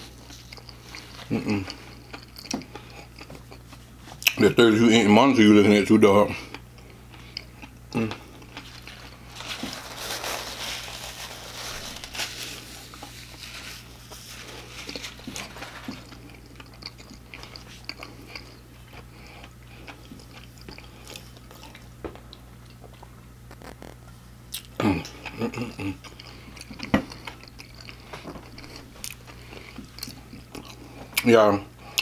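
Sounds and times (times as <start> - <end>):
chewing crunchy fried food: 0.0 - 4.4, 6.4 - 32.0.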